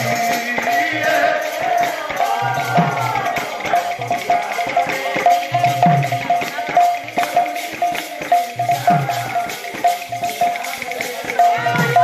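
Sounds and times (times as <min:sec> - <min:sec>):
jingling percussion: 0:00.0 - 0:12.0.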